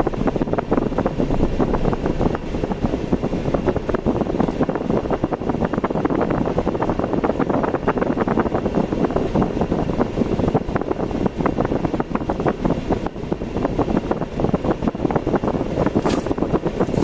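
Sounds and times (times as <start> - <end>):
road and engine noise: 0.0 - 17.0
wind buffeting: 0.0 - 17.0.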